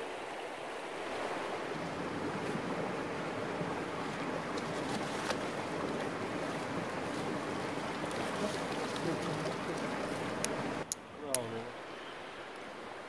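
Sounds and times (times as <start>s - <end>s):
river running over rocks: 0.0s - 13.0s.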